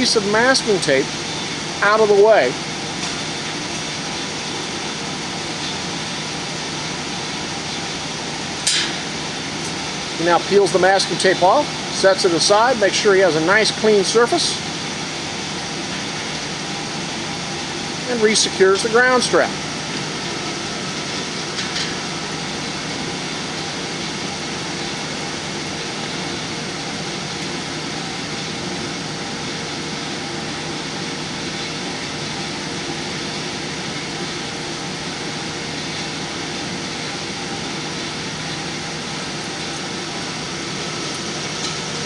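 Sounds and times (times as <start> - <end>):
ventilation hiss: 0.0 - 42.0.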